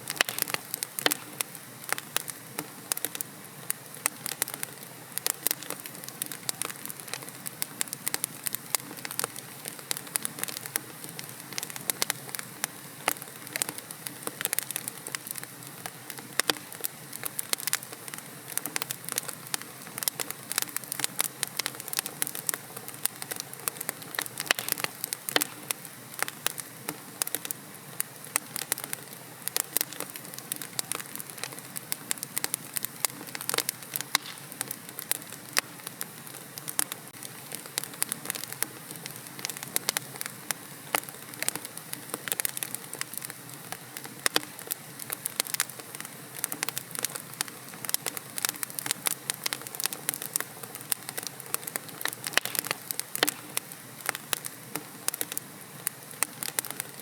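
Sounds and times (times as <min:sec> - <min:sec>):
fire popping and snapping: 0:00.0 - 0:57.0
wood fire hissing: 0:00.0 - 0:57.0.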